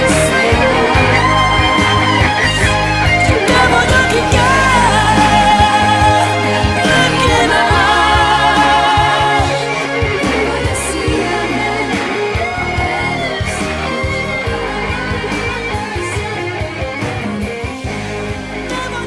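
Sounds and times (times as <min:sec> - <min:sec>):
guitar melody: 0:00.0 - 0:19.0
instrumental pop love song: 0:00.0 - 0:19.0.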